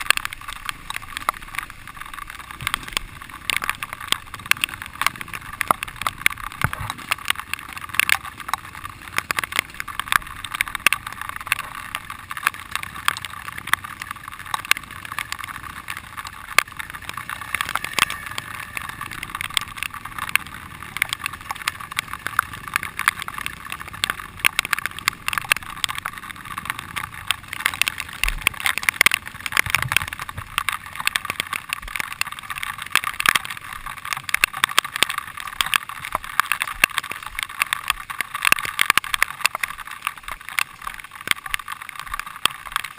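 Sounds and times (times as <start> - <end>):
crackling clicks and knocks: 0.0 - 42.9
dirt bike riding rush: 0.0 - 42.9.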